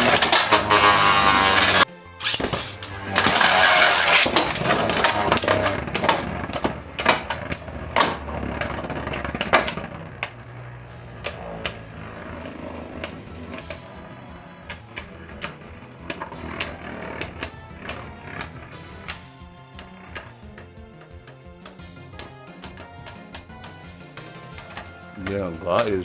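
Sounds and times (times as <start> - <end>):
spinning tops whirring and scraping: 0.0 - 26.0.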